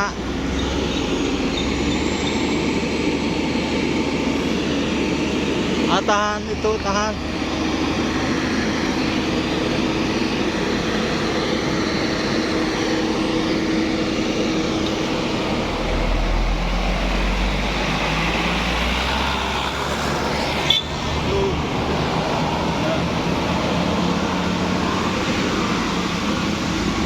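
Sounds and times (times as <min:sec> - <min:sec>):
heavy vehicle engine rumble: 0:00.0 - 0:27.0
traffic noise: 0:00.0 - 0:27.0.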